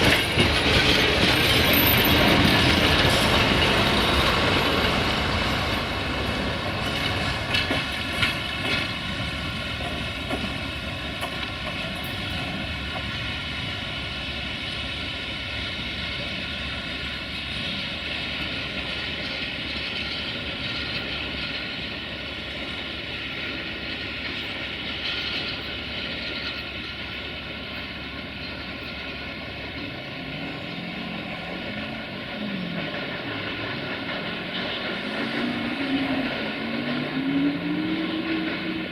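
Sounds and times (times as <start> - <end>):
train engine whine: 0.0 - 38.9.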